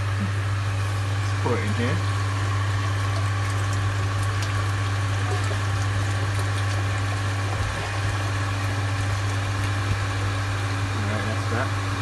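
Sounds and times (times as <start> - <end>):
pump humming: 0.0 - 12.0
water churning in a tank: 0.0 - 12.0
liquid pouring from a bottle: 0.1 - 12.0.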